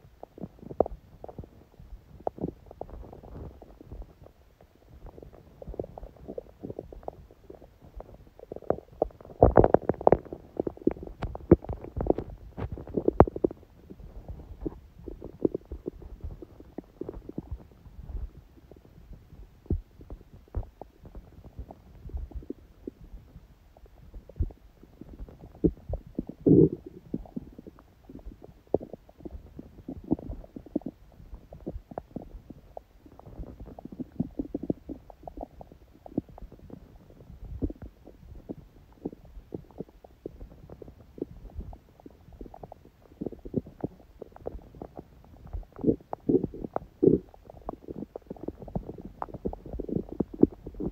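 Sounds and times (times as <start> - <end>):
stomach gurgling and rumbling: 0.0 - 50.9.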